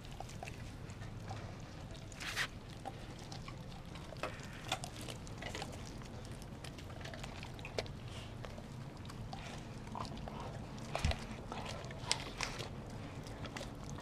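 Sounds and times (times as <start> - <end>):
dog chewing raw chicken: 0.0 - 14.0.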